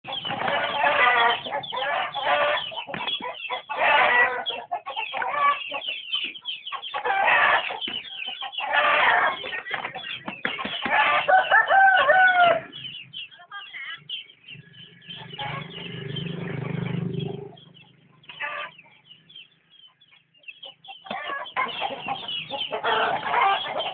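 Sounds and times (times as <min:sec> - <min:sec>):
chickens squawking and clucking: 0:00.0 - 0:23.9.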